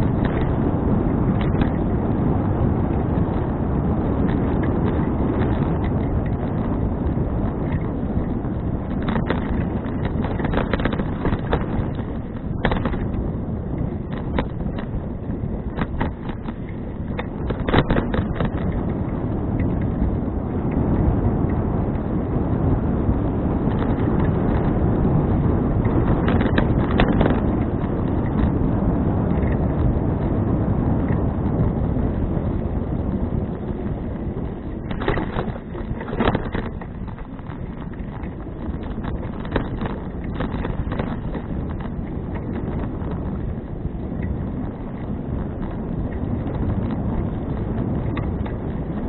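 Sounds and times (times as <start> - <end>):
sharp rattles and knocks: 0.0 - 2.1, 2.8 - 22.2, 23.5 - 49.0
wind buffeting microphone: 0.0 - 49.0.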